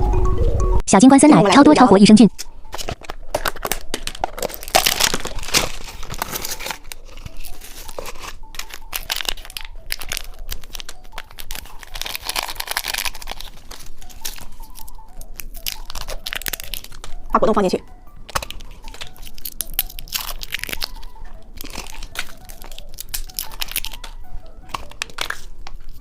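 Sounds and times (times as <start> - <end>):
snack packaging crinkling and tearing: 2.3 - 26.0.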